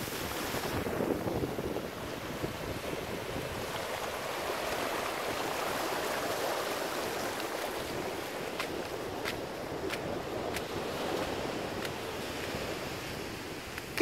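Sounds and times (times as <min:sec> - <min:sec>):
surf washing over sand: 0:00.0 - 0:14.0.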